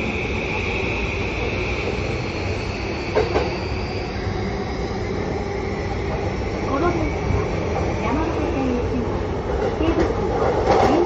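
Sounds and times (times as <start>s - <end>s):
train high whine: 0.0s - 11.0s
train rumble: 0.0s - 11.0s.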